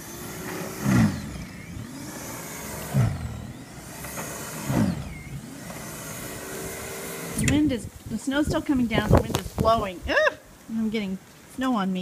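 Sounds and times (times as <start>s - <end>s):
snowblower motor hum: 0.0s - 9.9s.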